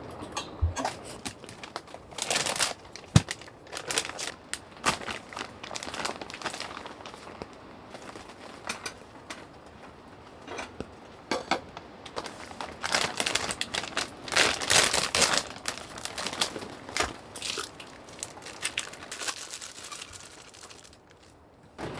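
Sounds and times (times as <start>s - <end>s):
crinkling and rustling: 0.0s - 21.9s.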